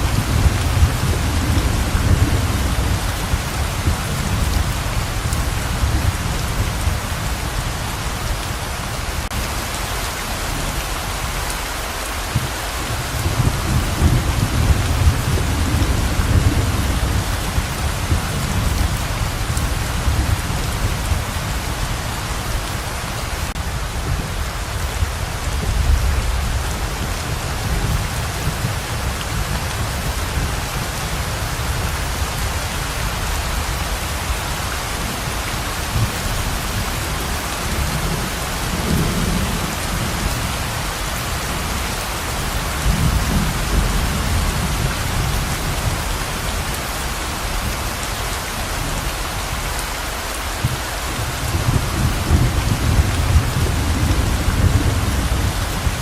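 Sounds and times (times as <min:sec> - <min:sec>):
low rumbles of thunder: 0:00.0 - 0:08.6, 0:12.3 - 0:22.8, 0:23.5 - 0:46.8, 0:50.6 - 0:56.0
heavy rain pouring: 0:00.0 - 0:56.0.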